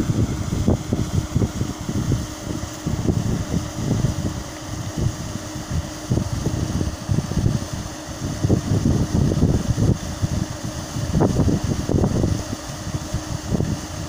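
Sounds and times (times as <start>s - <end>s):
paddle wheel aerator churning water: 0.0s - 14.0s
wind rumble on microphone: 0.0s - 14.0s.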